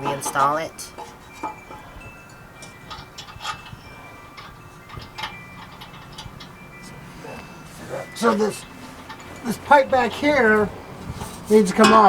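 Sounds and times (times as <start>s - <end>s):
light metallic clicks and clinks: 0.0s - 12.0s.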